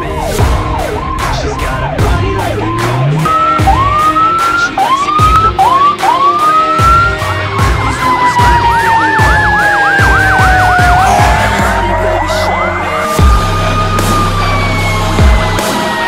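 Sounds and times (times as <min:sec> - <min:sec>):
electronic siren whooping: 0:00.0 - 0:16.0
fast siren yelp: 0:00.0 - 0:16.0
siren wail falling in pitch: 0:00.0 - 0:16.0.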